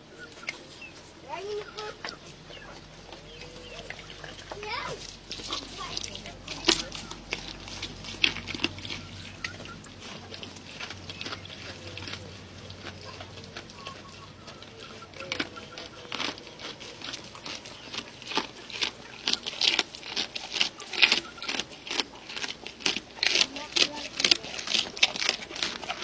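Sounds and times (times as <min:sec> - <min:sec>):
goat chewing wet crunching: 0:00.0 - 0:26.0.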